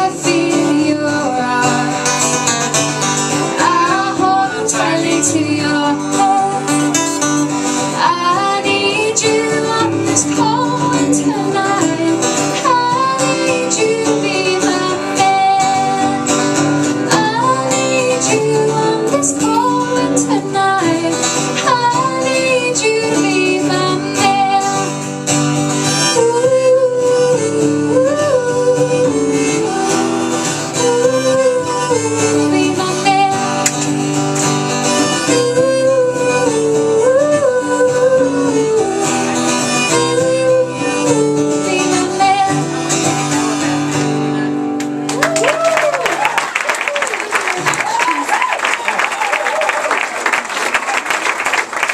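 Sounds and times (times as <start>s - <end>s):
acoustic guitar strumming: 0.0s - 45.2s.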